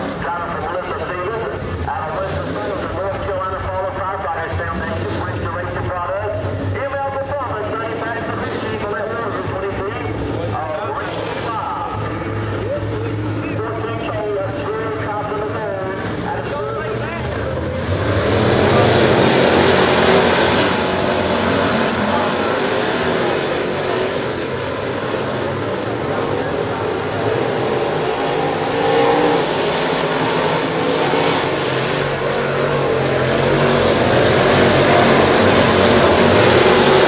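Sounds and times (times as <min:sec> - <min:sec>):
race car engines at speed: 0:00.0 - 0:37.0.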